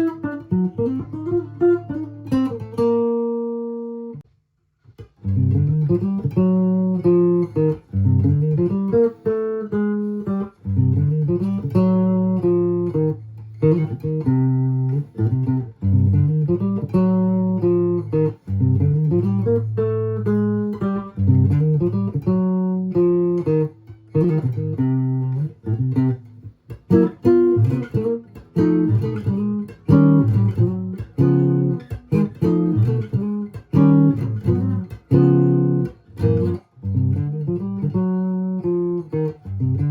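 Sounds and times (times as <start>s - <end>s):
electric guitar plucked chords: 5.2s - 39.9s.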